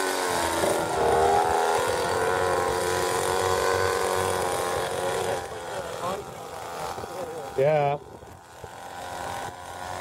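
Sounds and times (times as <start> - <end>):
model airplane motor whine: 0.0 - 10.0.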